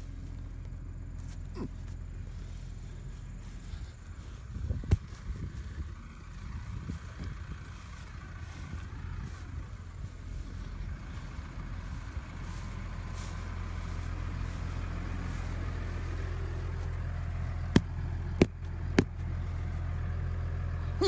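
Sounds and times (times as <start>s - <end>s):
tractor engine humming: 0.0s - 21.0s.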